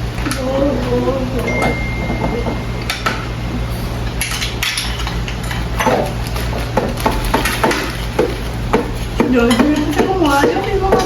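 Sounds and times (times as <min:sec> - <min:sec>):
steady low hum: 0:00.0 - 0:11.0
dishes and utensils clattering: 0:00.3 - 0:11.0.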